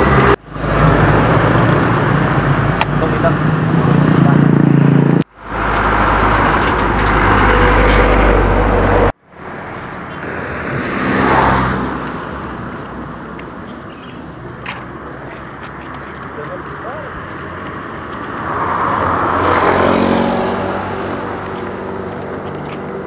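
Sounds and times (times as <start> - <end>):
road traffic hum: 0.0 - 23.0
vehicle passing: 0.0 - 23.0.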